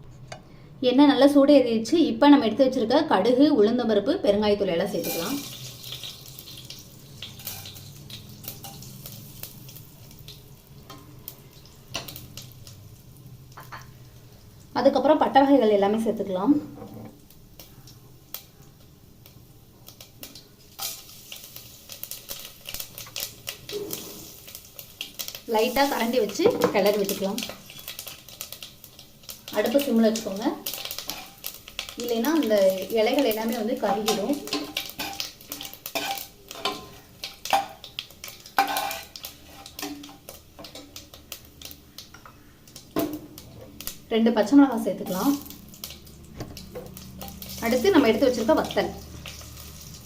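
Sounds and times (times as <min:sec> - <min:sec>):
spices sizzling in oil: 0:04.2 - 0:50.0
seeds crackling and popping in oil: 0:04.9 - 0:15.4, 0:17.1 - 0:50.0.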